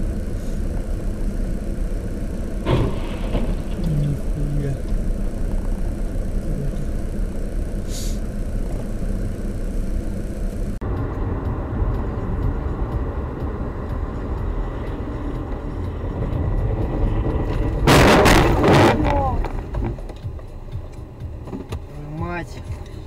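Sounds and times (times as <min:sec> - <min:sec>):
faint high whine: 0:00.0 - 0:21.2
car engine and road noise: 0:00.0 - 0:23.0.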